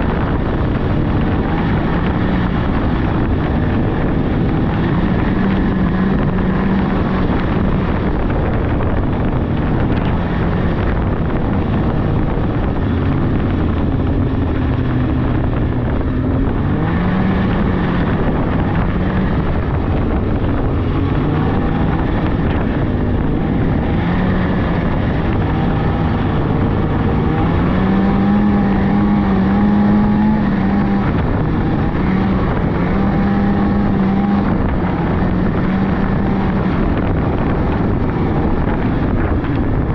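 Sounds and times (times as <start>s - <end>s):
snowmobile engine running: 0.0s - 39.9s
wind buffeting microphone: 0.0s - 39.9s.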